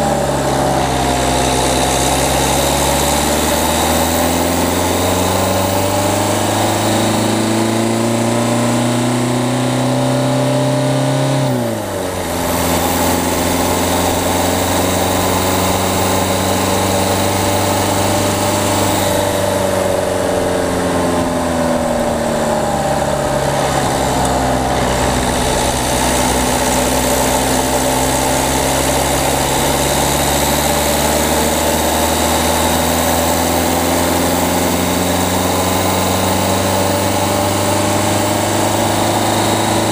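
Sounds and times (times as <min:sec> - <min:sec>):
diesel car engine revving: 0:00.0 - 0:39.9.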